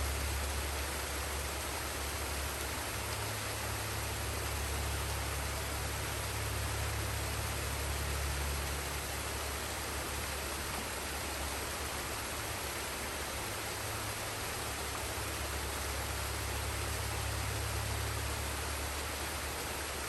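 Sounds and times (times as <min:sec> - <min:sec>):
waterfall and stream rushing: 0:00.0 - 0:20.0.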